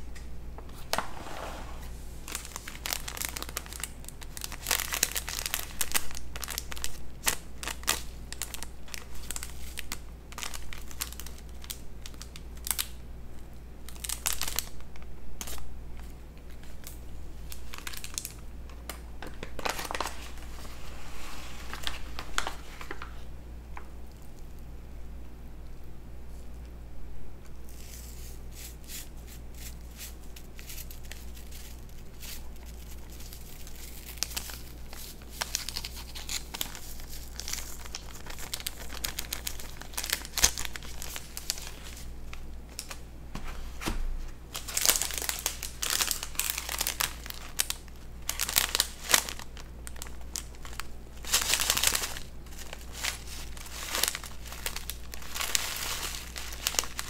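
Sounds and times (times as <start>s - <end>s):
food wrappers crinkling: 2.2s - 24.7s, 27.6s - 43.1s, 44.4s - 57.0s.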